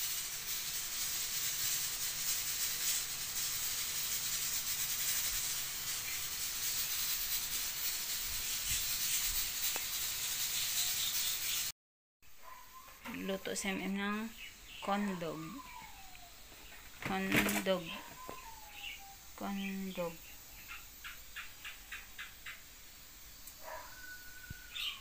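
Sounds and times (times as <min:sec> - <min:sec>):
steady hiss: 0:00.0 - 0:11.7, 0:12.5 - 0:25.0.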